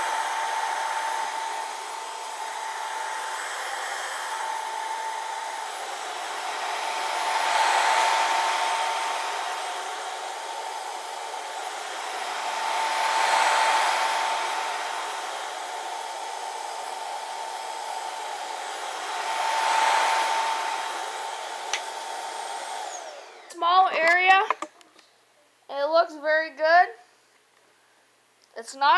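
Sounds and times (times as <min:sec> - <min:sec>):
carpet cleaner motor whine: 0:00.0 - 0:23.6.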